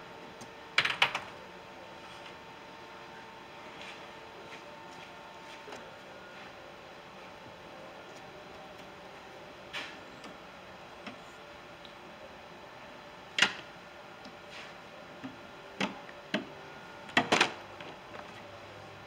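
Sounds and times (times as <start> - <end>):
faint background hum: 0.0 - 19.0.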